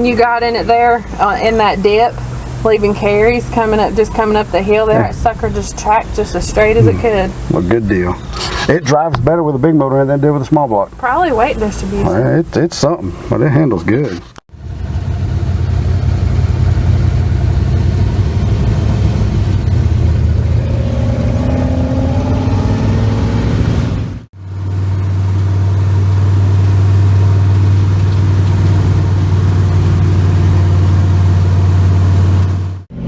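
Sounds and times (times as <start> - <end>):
car engine rumbling: 0.0 - 9.4, 14.5 - 33.0.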